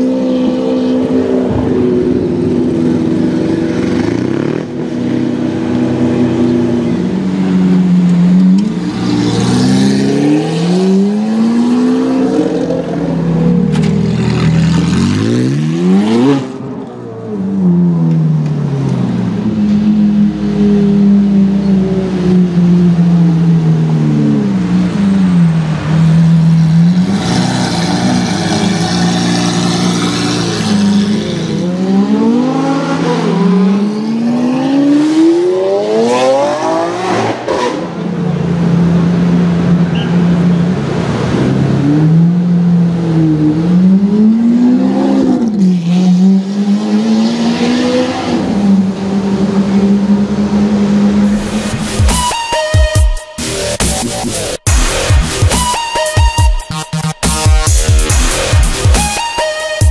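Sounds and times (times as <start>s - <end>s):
car engine revving: 0.0s - 17.9s, 19.1s - 52.3s.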